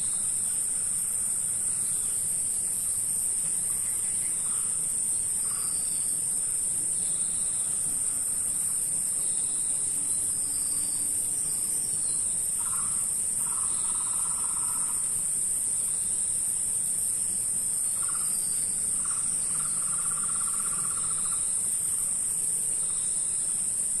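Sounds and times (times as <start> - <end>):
insects droning high-pitched: 0.0 - 24.0.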